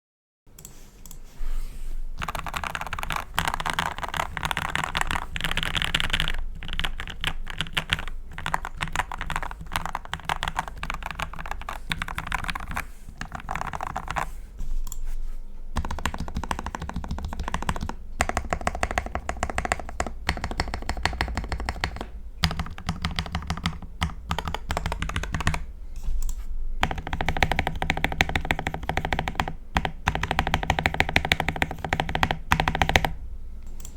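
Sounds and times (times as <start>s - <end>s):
mechanical keyboard keys pressed: 2.2s - 14.3s, 15.8s - 25.7s, 26.8s - 33.2s.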